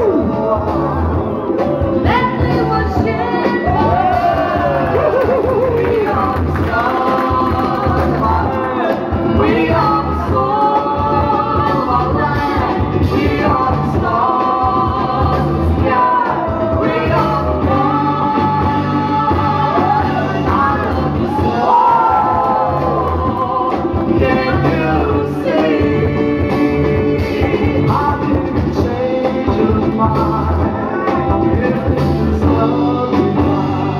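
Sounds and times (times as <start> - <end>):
heavy bass beat: 0.0 - 33.9
person singing: 0.0 - 33.9.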